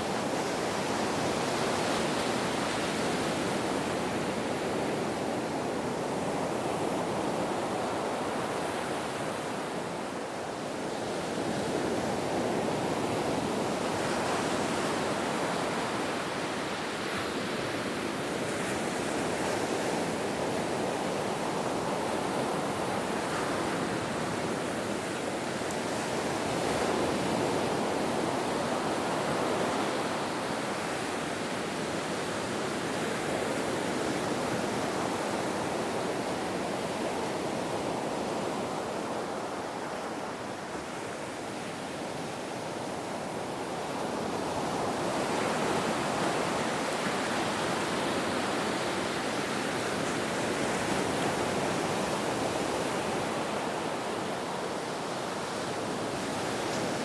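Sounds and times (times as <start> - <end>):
ocean surf waves: 10.7 - 57.0.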